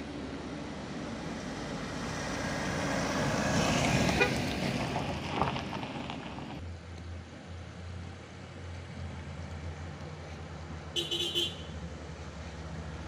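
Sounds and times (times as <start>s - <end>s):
low engine hum: 0.0s - 13.0s
vehicle passing on gravel road: 0.0s - 13.0s.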